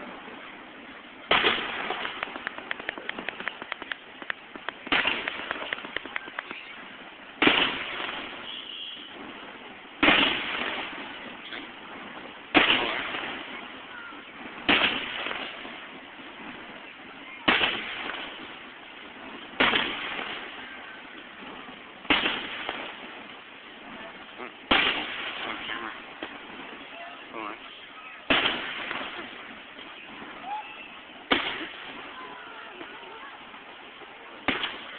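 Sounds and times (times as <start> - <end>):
firework shells bursting: 1.0 - 34.9.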